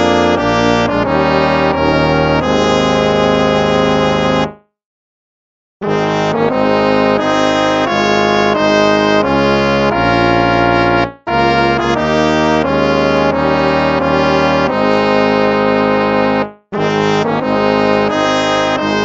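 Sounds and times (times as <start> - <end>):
instrumental hymn chords: 0.0 - 4.7, 5.8 - 19.0.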